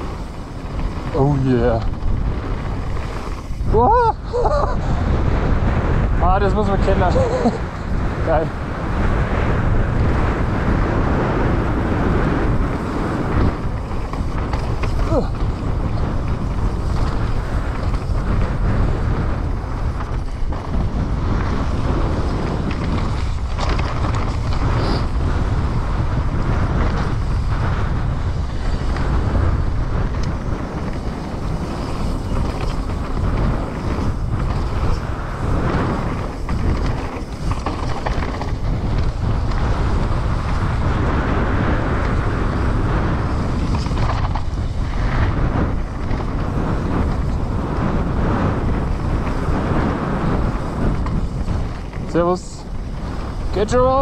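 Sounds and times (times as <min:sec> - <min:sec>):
bike clattering over bumps: 0:00.0 - 0:54.0
bike tyres rolling on dirt: 0:00.0 - 0:54.0
wind on microphone: 0:00.0 - 0:54.0.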